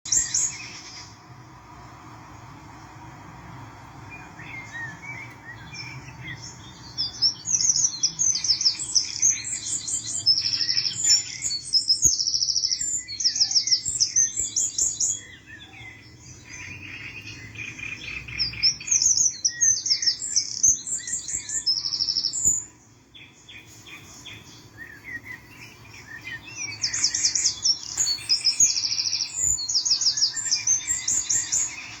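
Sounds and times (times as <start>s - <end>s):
songbird trilling: 0.1s - 1.2s, 4.2s - 32.0s
quiet bird chirps: 0.1s - 32.0s.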